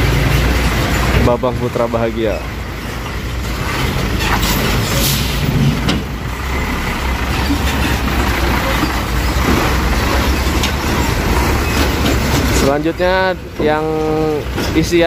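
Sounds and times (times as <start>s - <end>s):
diesel truck engine passing: 0.0s - 15.0s
road noise: 0.0s - 15.0s.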